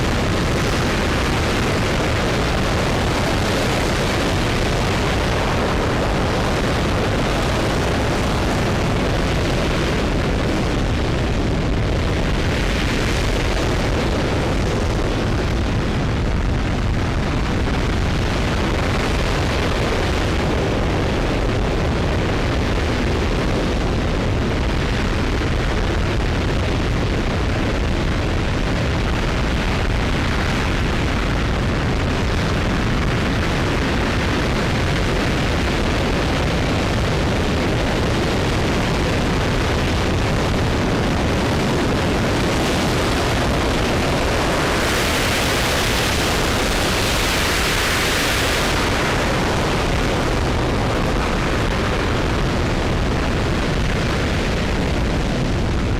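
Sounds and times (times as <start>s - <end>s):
rocket engine roaring: 0.0s - 55.9s.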